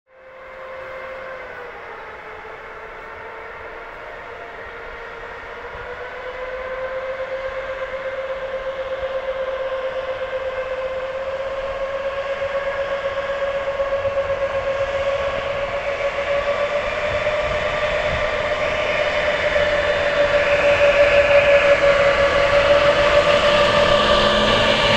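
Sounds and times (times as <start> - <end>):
electric locomotive whine: 0.1 - 24.9.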